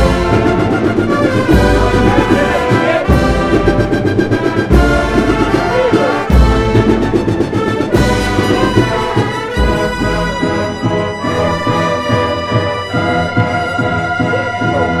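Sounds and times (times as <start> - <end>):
brass band playing a march: 0.0 - 15.0
heavy percussion strokes: 0.0 - 15.0.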